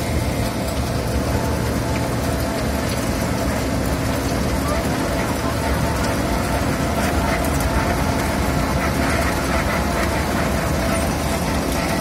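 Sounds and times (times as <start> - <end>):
constant machine whine: 0.0 - 12.0
milling machine engine drone: 0.0 - 12.0.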